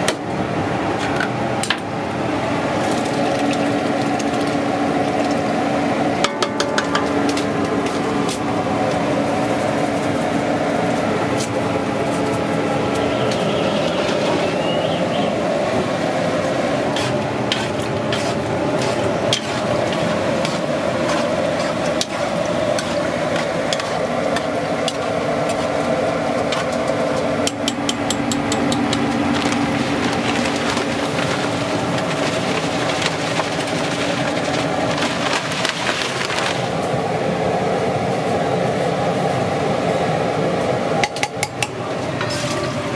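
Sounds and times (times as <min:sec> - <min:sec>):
kitchen hum: 0:00.0 - 0:42.9.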